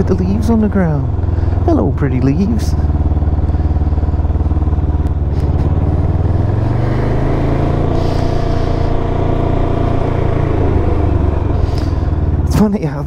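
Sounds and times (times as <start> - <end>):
motorcycle engine and exhaust running: 0.0 - 13.0.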